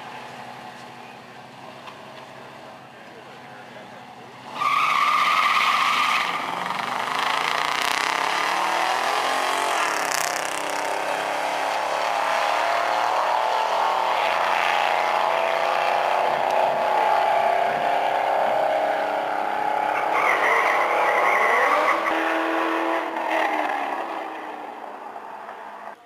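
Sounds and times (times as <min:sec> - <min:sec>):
engines at full throttle: 0:00.0 - 0:26.0.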